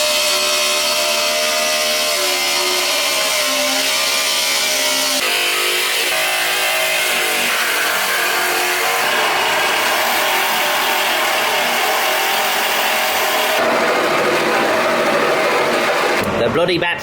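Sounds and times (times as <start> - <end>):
cutting tool grinding steel: 0.0 - 16.3.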